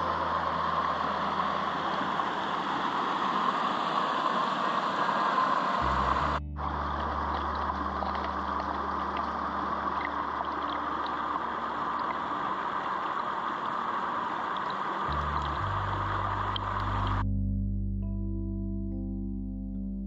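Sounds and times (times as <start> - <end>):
low held background music: 0.0 - 3.2, 5.8 - 20.0
stream splashing over rocks: 0.0 - 17.2.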